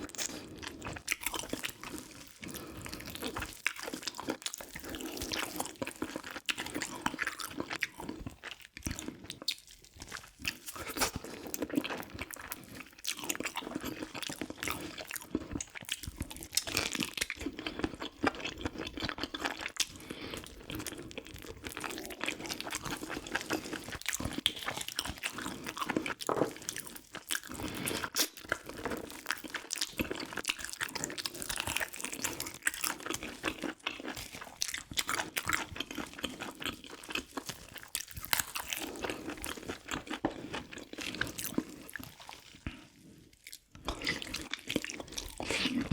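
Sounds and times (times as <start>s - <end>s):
close chewing and crunching: 0.0s - 45.9s.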